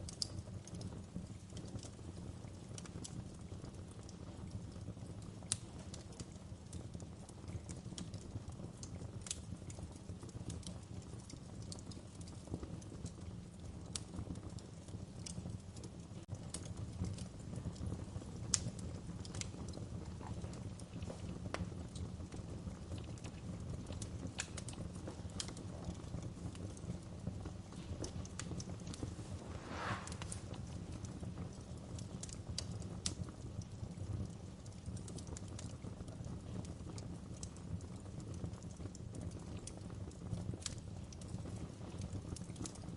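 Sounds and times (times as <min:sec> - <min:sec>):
low rumble of burning: 0:00.0 - 0:42.9
wood fire crackling: 0:00.0 - 0:42.9.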